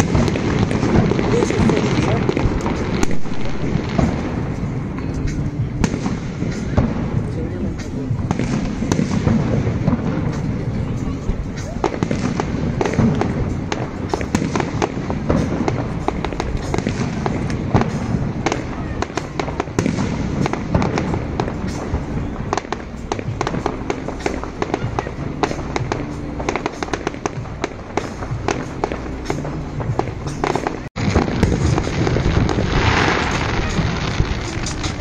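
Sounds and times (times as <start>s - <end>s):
fireworks cracks and bangs: 0.0s - 35.0s.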